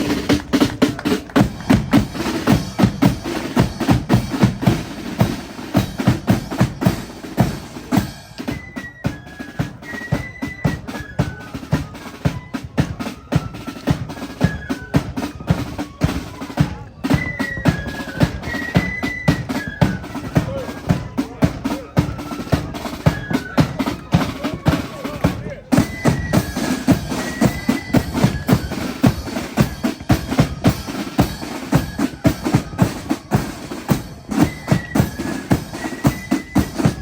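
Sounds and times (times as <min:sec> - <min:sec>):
flutes playing high melody: 0:00.0 - 0:37.0
snare and bass drums marching: 0:00.0 - 0:37.0.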